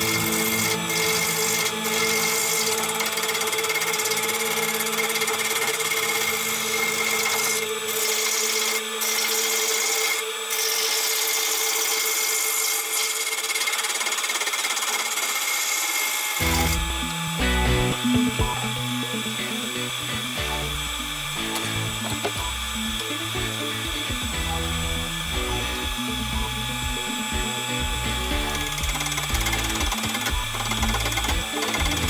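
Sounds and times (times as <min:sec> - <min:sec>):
wood lathe motor whine: 0:00.0 - 0:32.0.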